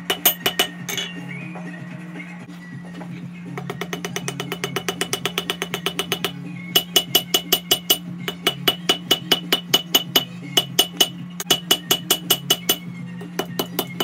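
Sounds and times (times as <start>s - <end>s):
hammer striking steel on anvil: 0.0s - 1.4s, 3.6s - 14.0s.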